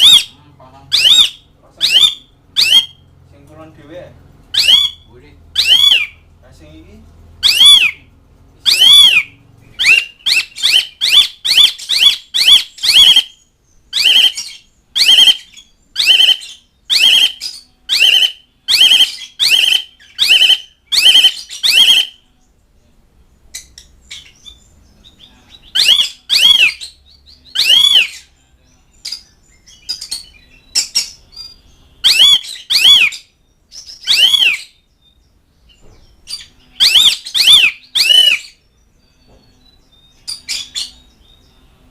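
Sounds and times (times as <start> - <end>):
starling calling: 0.0 - 3.1, 4.5 - 6.3, 7.4 - 22.3, 23.5 - 28.4, 29.0 - 41.6.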